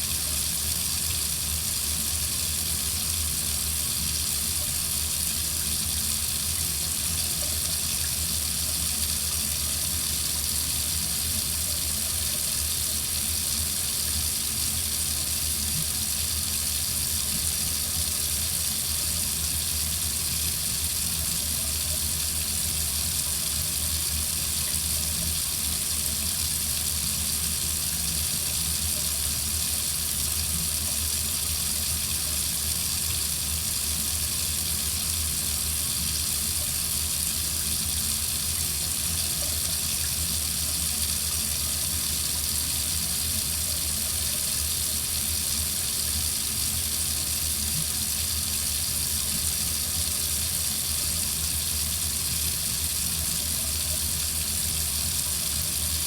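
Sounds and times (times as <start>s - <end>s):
faucet running into sink: 0.0s - 56.0s.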